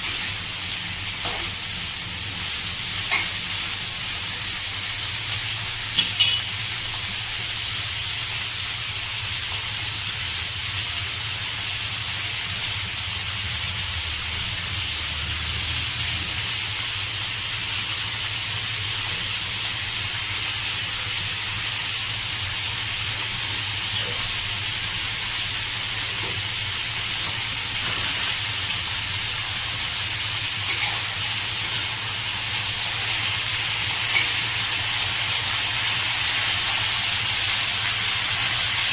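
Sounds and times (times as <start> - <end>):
onions sizzling in a pan: 0.0 - 38.9.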